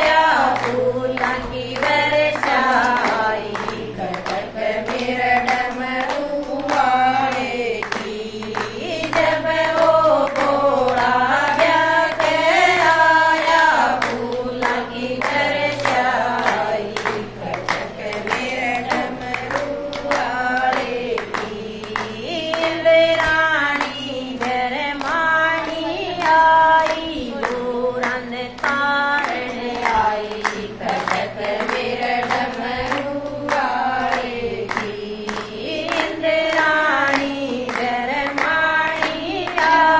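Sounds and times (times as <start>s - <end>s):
rhythmic hand-clapping: 0.0s - 39.9s
women singing in unison: 0.0s - 39.9s.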